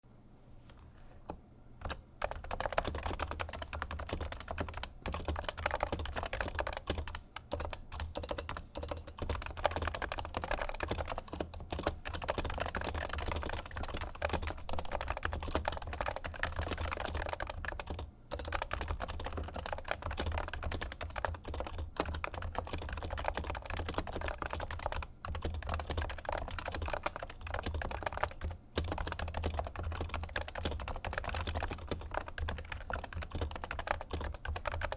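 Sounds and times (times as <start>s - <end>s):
fast typing on keyboard: 1.8s - 34.9s.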